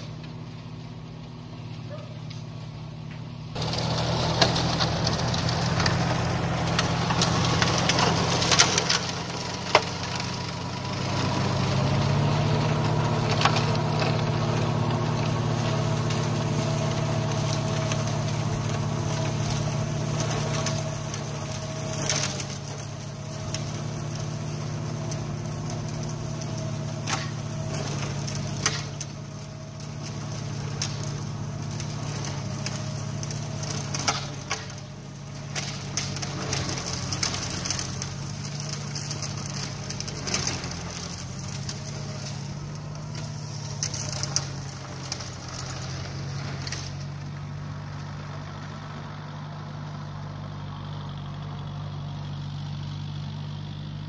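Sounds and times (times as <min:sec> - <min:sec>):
flail mower shredding weeds: 0:00.0 - 0:54.0
tractor diesel engine running: 0:00.0 - 0:54.0.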